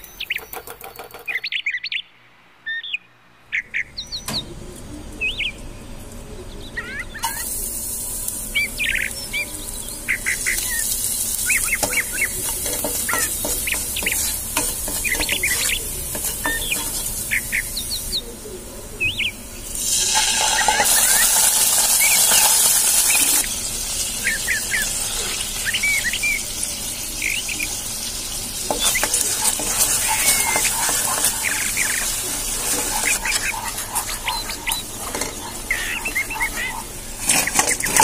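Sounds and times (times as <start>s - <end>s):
small birds chirping: 0.0s - 38.0s
steady high hiss: 3.9s - 38.0s.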